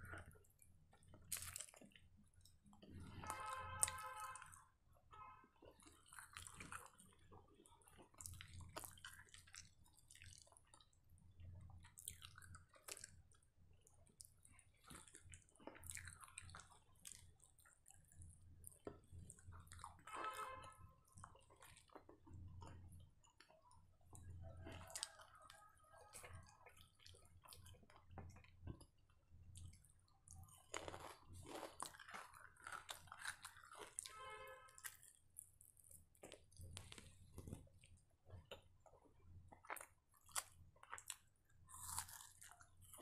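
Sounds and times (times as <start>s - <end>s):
person chewing: 0.0s - 4.6s, 5.6s - 20.1s, 21.1s - 29.0s, 29.6s - 43.0s.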